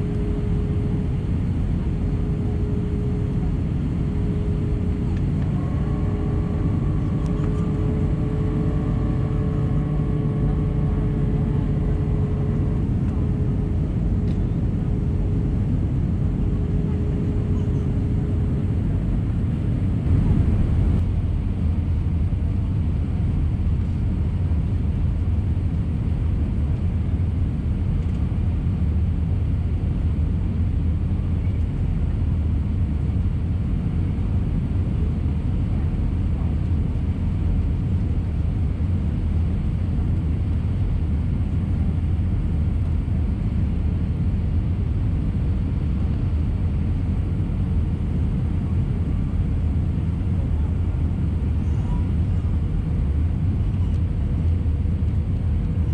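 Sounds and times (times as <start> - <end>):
airliner cabin roar: 0.0 - 55.9.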